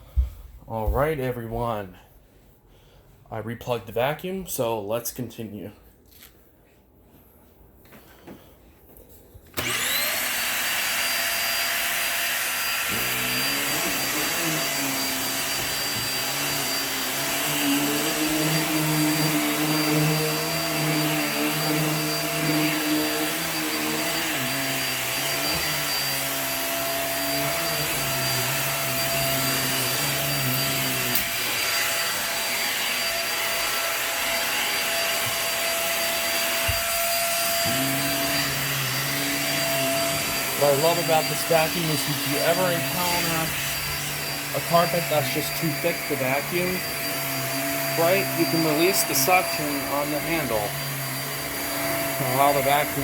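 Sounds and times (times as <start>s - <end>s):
vacuum motor whine: 9.6s - 53.0s.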